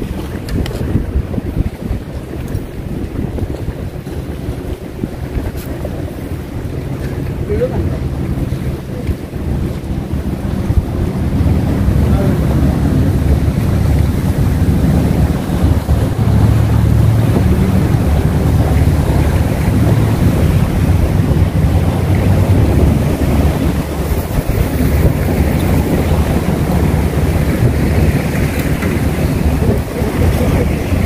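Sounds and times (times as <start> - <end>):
sea water washing against rocks: 0.0 - 31.0
wind buffeting microphone: 0.0 - 31.0.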